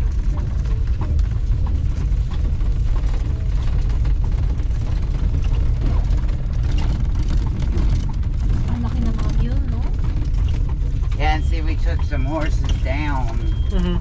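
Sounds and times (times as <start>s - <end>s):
faint rattles and clicks: 0.0s - 13.7s
wagon rumbling: 0.0s - 14.0s.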